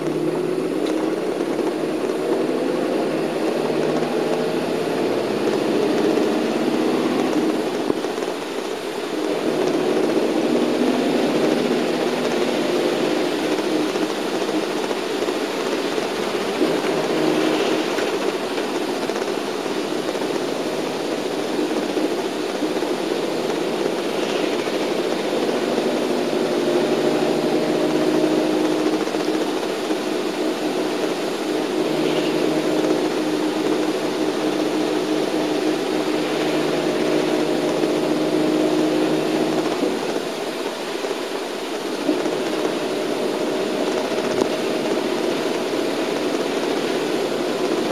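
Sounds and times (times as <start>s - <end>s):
bus engine running: 0.0s - 47.9s
tyre noise on road: 0.0s - 47.9s.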